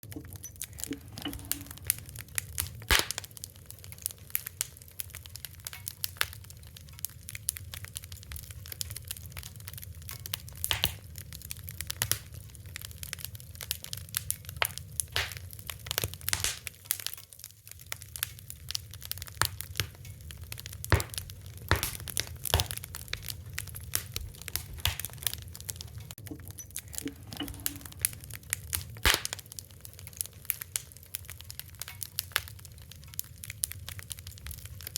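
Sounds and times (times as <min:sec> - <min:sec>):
fire crackling: 0:00.0 - 0:34.9.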